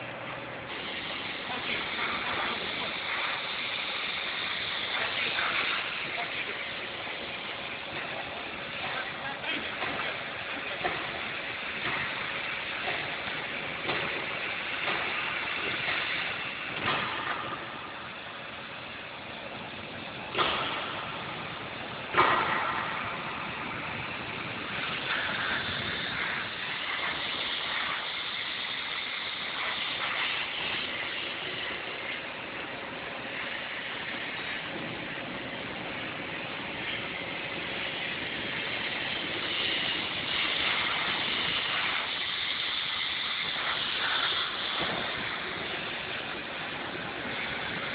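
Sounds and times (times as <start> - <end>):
metal grooving machine running: 0.0 - 47.9.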